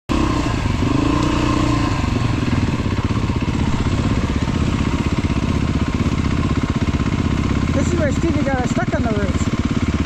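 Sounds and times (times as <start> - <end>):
dirt bike engine running: 0.1 - 10.0.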